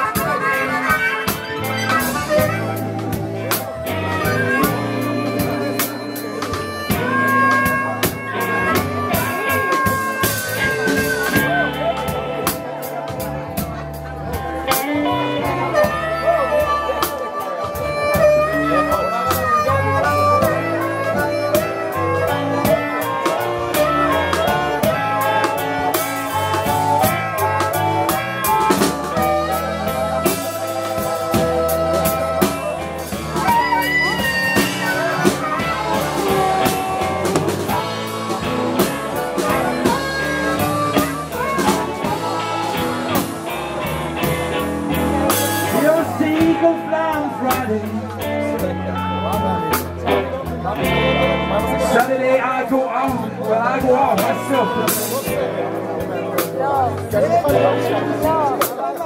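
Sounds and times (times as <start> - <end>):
amplified harmonica solo: 0.0 - 52.3
drum kit steady beat: 0.0 - 59.0
electric bass: 0.0 - 59.0
electric guitar: 0.0 - 59.0.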